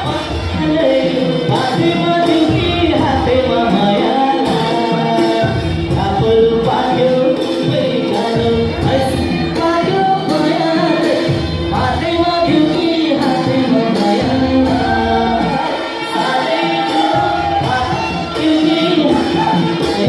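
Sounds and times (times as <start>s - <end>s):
singing over a beat: 0.0s - 20.0s.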